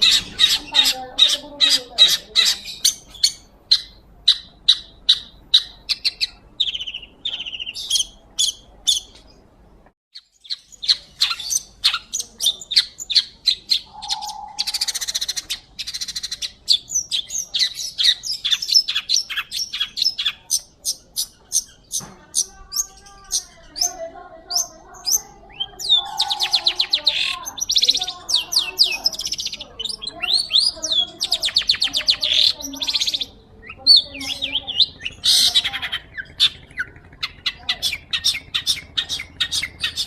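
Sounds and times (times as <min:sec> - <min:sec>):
bird singing harsh scratchy notes: 0:00.0 - 0:40.0.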